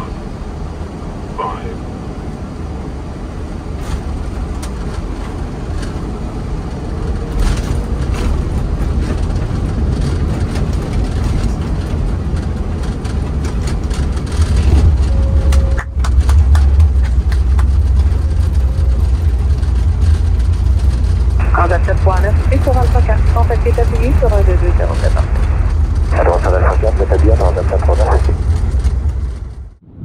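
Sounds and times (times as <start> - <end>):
aircraft cockpit low rumble: 0.0 - 30.0.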